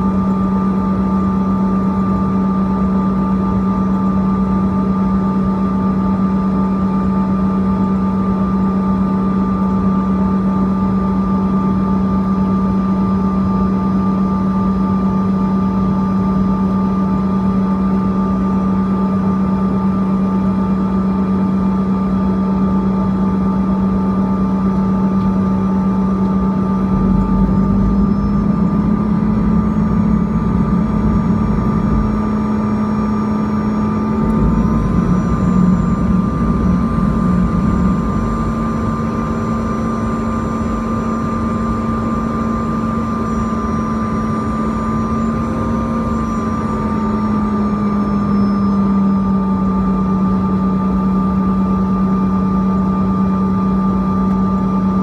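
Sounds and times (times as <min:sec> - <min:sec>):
jet engine drone and whine: 0:00.0 - 0:55.0.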